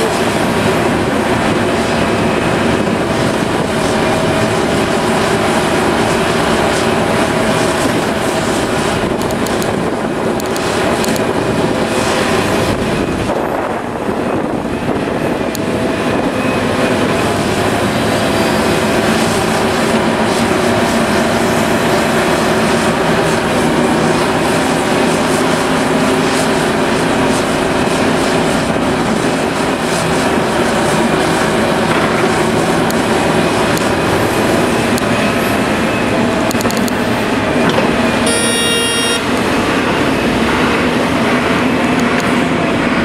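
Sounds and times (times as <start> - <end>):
heavy diesel machinery drone: 0.0 - 43.0.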